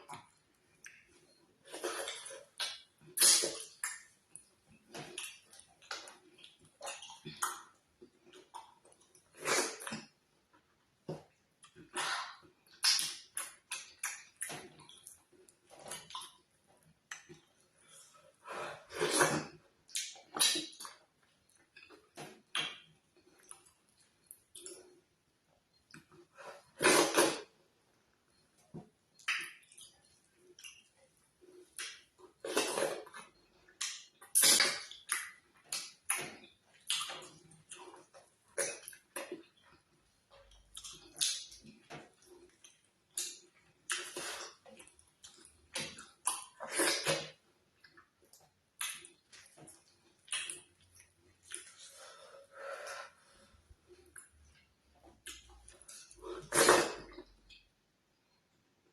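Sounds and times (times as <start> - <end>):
wet chewing and swallowing: 0.0 - 27.6, 28.3 - 58.4.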